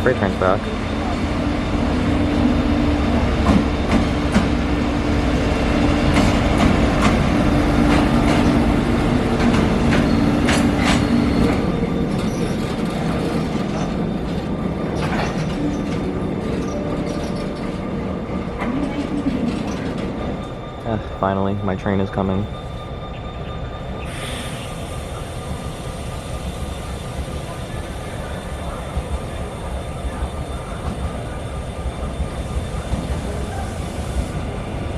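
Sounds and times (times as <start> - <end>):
train wheels on rails: 0.0 - 34.9.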